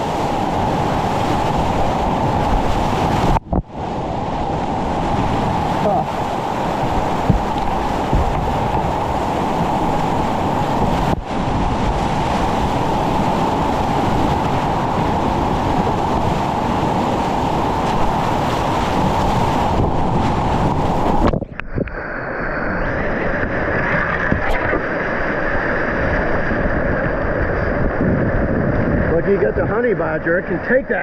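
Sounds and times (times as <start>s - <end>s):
whitewater roaring: 0.0s - 31.0s.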